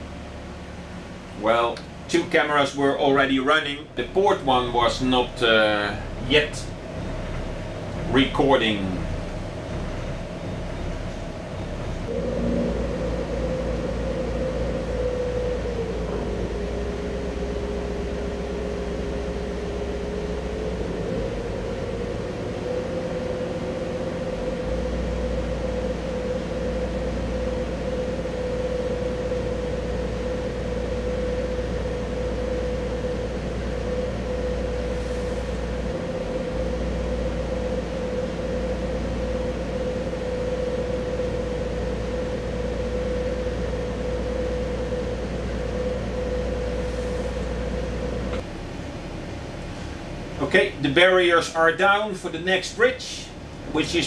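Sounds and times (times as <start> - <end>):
boat engine humming with whine: 0.0 - 54.0.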